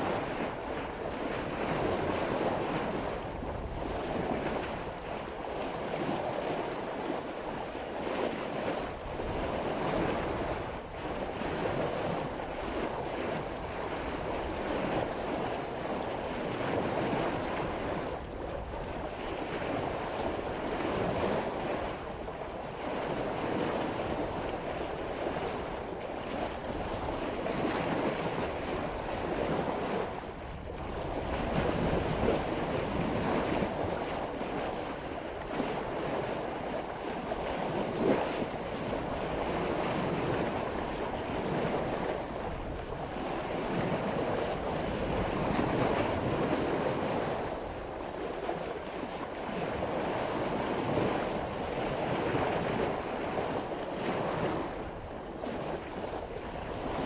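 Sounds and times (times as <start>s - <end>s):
water rushing along a boat hull: 0.0s - 57.0s
wind on microphone: 0.0s - 57.0s.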